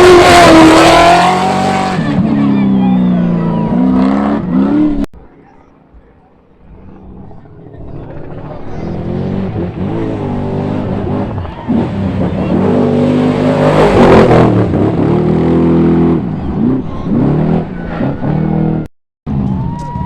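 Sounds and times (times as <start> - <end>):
race truck engine revving: 0.0 - 5.2, 6.5 - 19.8.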